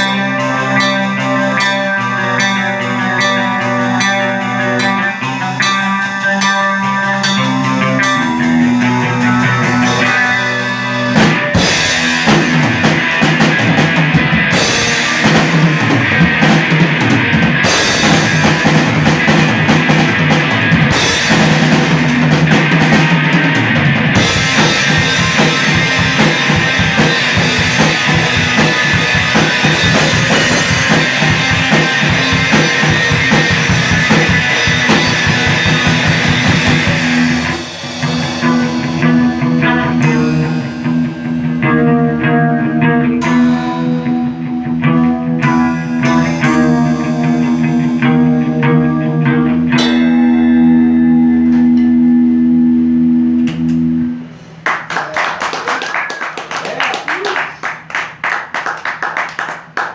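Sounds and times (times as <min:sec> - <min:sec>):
rock band playing live: 0:00.0 - 0:54.4
drum kit: 0:00.0 - 0:59.9
guitar: 0:00.0 - 0:59.9.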